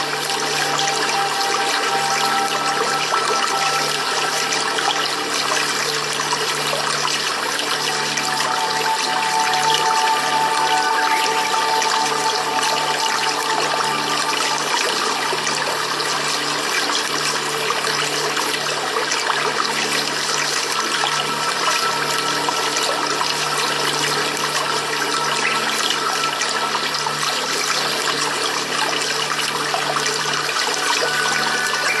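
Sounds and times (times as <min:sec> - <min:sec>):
faint sustained music tones: 0:00.0 - 0:32.0
running water rushing: 0:00.0 - 0:32.0.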